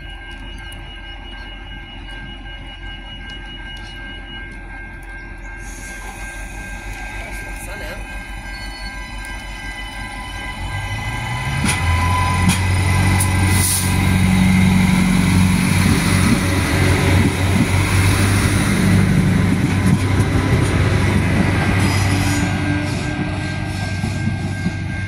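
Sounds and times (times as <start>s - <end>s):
diesel railcar engine droning: 0.0s - 25.0s.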